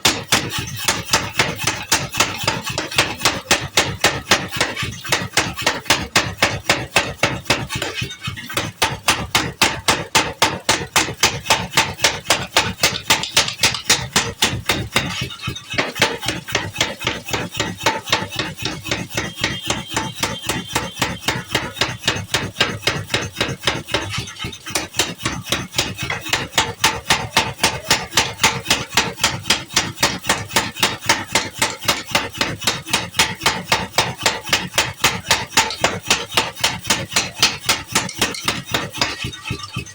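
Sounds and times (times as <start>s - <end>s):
power hammer pounding metal: 0.0s - 39.9s.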